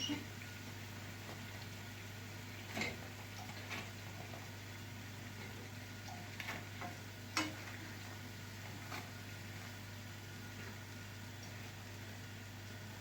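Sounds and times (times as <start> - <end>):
pancakes sizzling in oil: 0.0 - 13.0.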